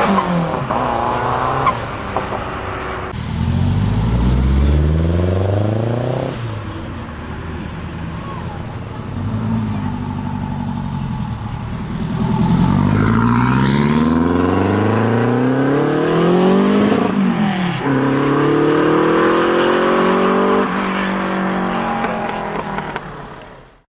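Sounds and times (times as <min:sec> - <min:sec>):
car engine revving: 0:00.0 - 0:23.8.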